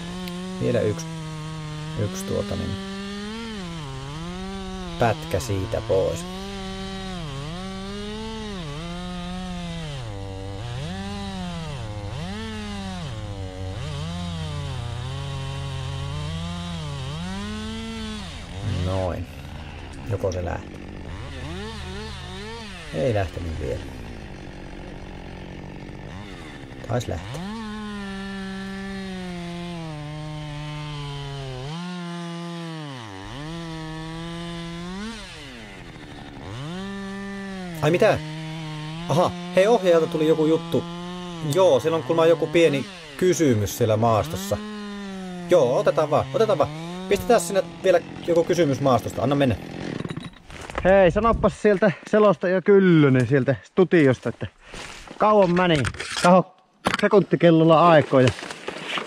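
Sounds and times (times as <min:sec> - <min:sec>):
chainsaw cutting a log: 0:00.0 - 0:50.9, 0:58.1 - 0:59.0.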